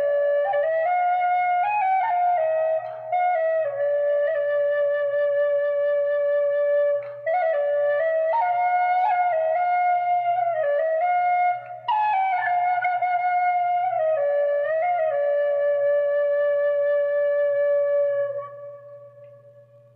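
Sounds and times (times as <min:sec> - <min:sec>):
flute playing slow melody: 0:00.0 - 0:19.9.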